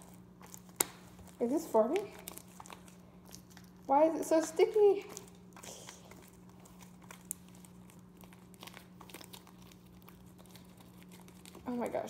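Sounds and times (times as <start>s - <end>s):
steady low hum: 0.0s - 12.0s
sticky slime crackling: 0.0s - 12.0s.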